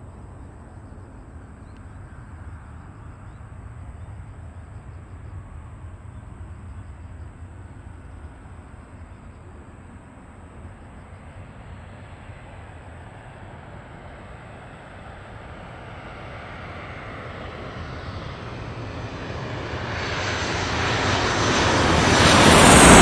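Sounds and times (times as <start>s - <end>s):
jet engine roar: 1.2s - 23.0s.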